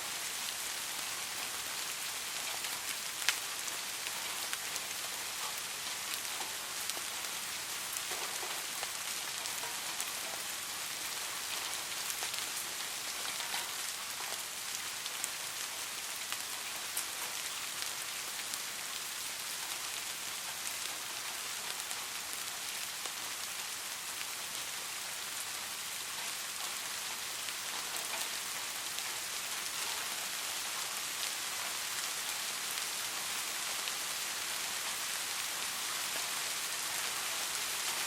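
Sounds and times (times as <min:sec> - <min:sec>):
soft rain falling: 0:00.0 - 0:38.0.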